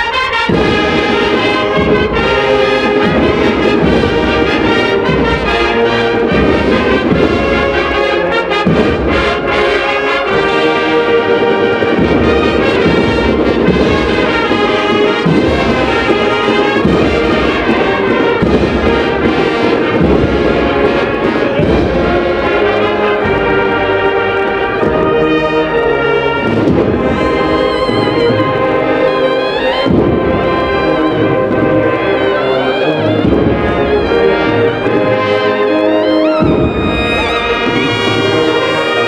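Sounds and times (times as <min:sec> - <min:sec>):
booming drum beats: 0:00.0 - 0:39.0
brass marching band playing: 0:00.0 - 0:39.0.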